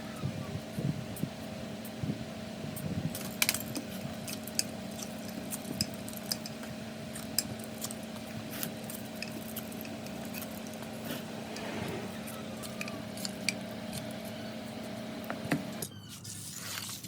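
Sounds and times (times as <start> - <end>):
steady hum: 0.0 - 15.8.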